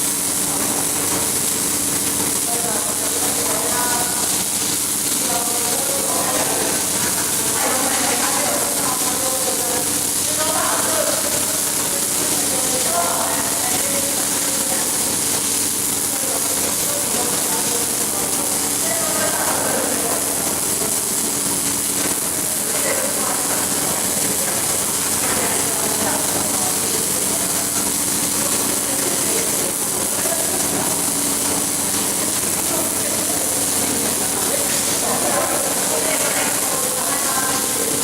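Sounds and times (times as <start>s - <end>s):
welding equipment hiss: 0.0s - 38.0s.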